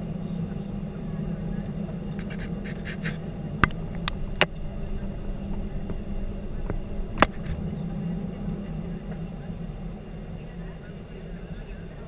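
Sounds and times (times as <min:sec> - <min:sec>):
airplane cabin noise: 0:00.0 - 0:12.0
low engine hum: 0:00.0 - 0:12.0.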